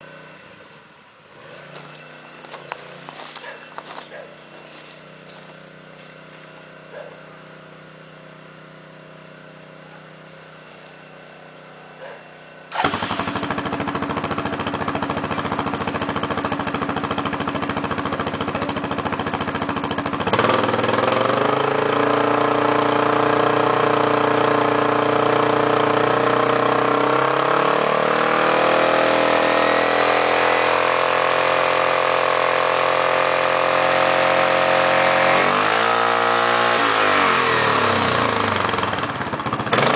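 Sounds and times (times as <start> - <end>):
atv engine starting and idling: 0.0 - 39.9.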